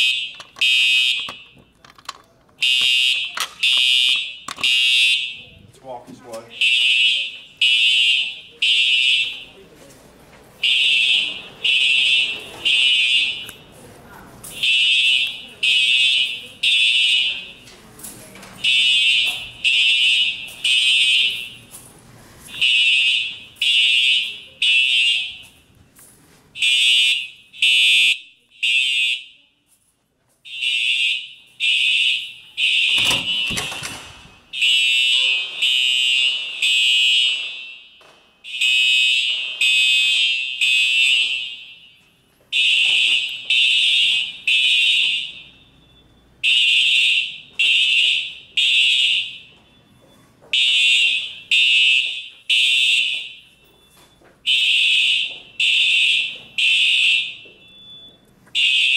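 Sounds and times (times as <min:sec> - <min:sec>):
fire alarm horn blasts: 0:00.0 - 0:01.6, 0:02.6 - 0:05.6, 0:06.5 - 0:09.6, 0:10.6 - 0:13.7, 0:14.5 - 0:17.6, 0:18.6 - 0:21.8, 0:22.5 - 0:25.6, 0:26.6 - 0:29.5, 0:30.4 - 0:58.9.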